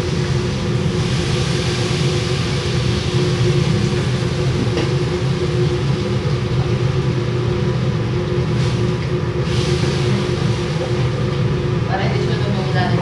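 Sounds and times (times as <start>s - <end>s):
extractor hood fan humming: 0.0s - 13.0s.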